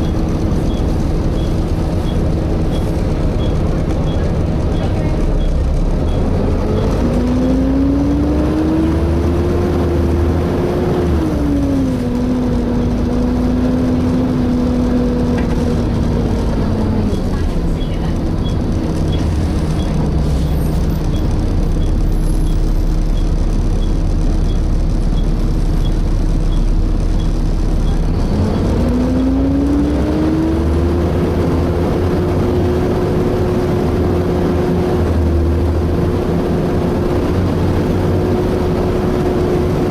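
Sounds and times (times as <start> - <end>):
bus engine and fan whine: 0.0 - 39.9.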